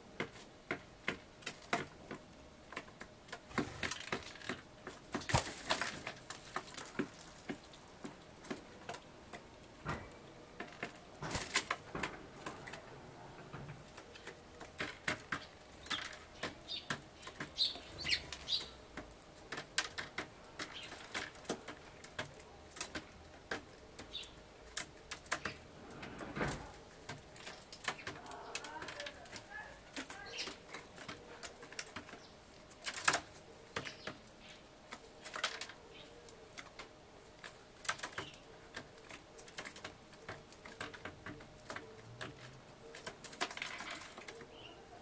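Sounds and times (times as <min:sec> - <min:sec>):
bird pecking on wood: 0:00.1 - 0:44.8.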